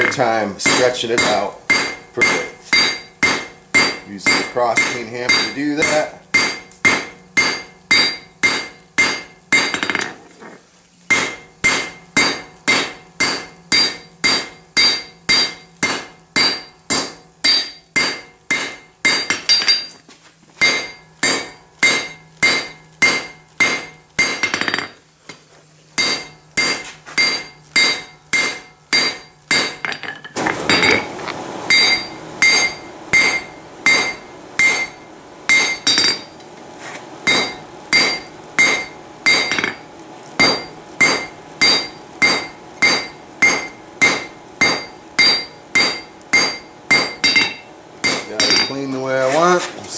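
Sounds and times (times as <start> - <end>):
anvil ringing: 0.0 - 10.2, 11.1 - 20.0, 20.6 - 24.9, 26.0 - 31.1, 31.7 - 36.3, 37.3 - 39.8, 40.4 - 48.9
hammer striking hot metal: 0.0 - 10.2, 11.1 - 20.0, 20.6 - 25.4, 26.0 - 36.4, 37.2 - 49.5.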